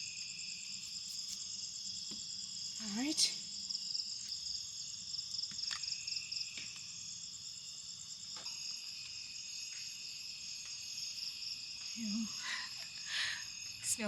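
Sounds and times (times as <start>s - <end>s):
crickets and insects trilling: 0.0s - 14.0s.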